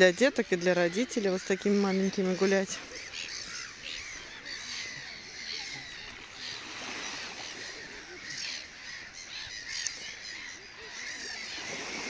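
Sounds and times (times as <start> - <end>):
many birds chattering: 0.0 - 12.0.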